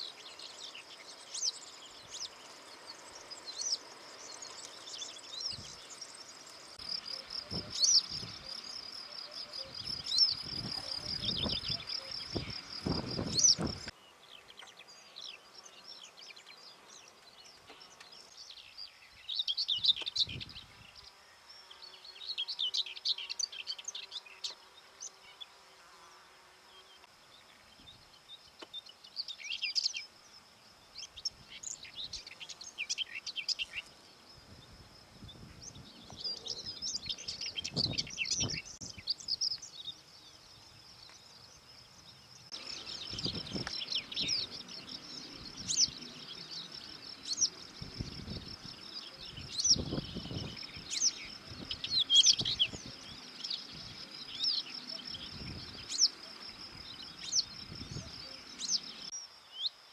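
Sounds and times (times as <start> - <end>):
songbirds twittering: 0.0 - 59.9.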